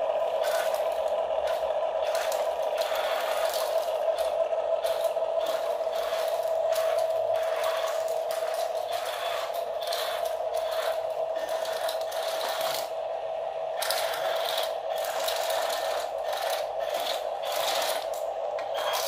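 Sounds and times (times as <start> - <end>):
toy truck motor whining: 0.0 - 13.0, 13.7 - 19.0
gears grinding and clattering: 0.0 - 13.1, 13.7 - 19.0.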